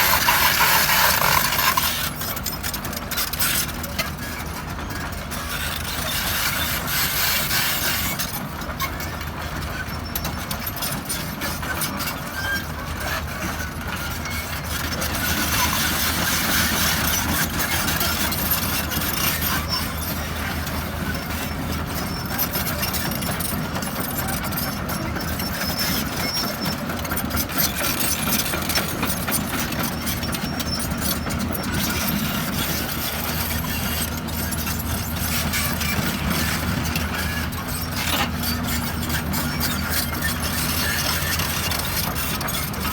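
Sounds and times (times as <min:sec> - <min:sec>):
excavator diesel engine droning: 0:00.0 - 0:42.9.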